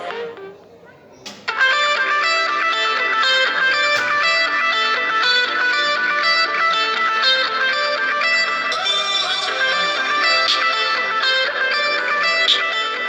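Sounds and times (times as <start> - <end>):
plucked ringtone melody: 0.0 - 0.6, 1.6 - 13.0.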